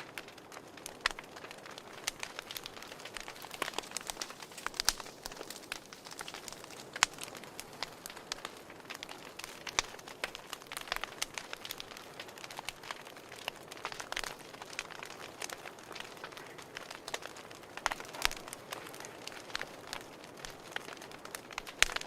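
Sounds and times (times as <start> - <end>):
fire snapping and popping: 0.0 - 22.0
soft steady fire hiss: 0.0 - 22.0.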